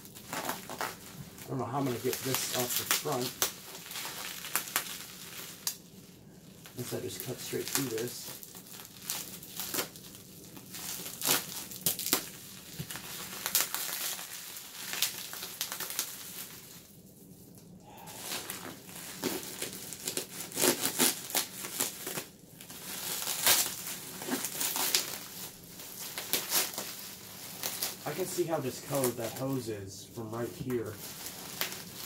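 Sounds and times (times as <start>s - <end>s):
bubble wrap crinkling: 0.0s - 32.0s.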